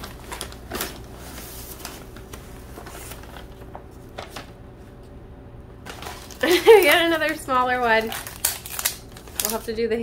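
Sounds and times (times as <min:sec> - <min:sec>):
packaging rustling and clicking: 0:00.0 - 0:04.5, 0:05.8 - 0:09.8.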